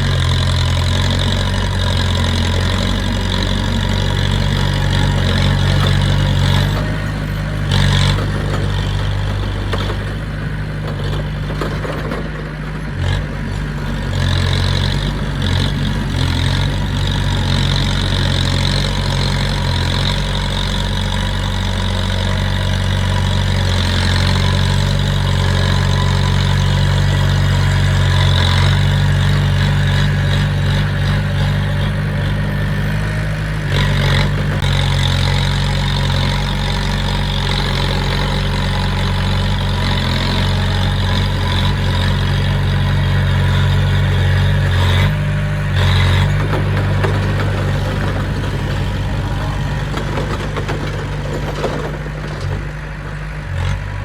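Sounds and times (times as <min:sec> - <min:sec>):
diesel engine low hum: 0:00.0 - 0:54.0.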